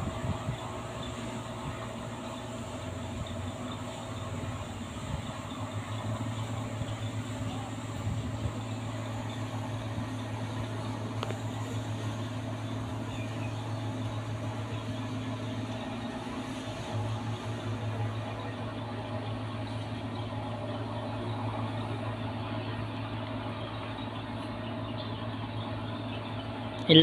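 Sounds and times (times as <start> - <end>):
ship engines droning: 0.0 - 27.0.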